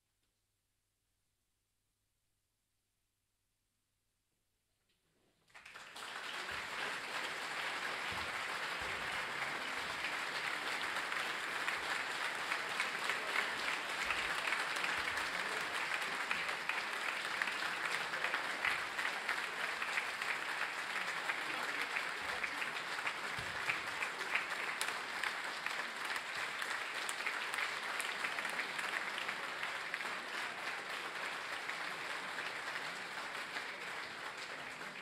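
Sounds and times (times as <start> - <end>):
audience applauding: 5.5 - 35.0.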